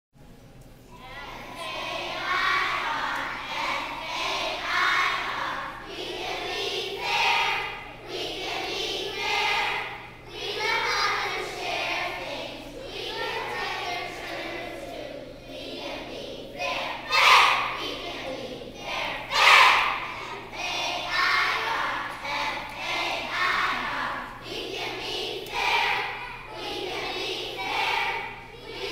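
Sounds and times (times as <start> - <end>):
children singing in unison: 0.9 - 28.9.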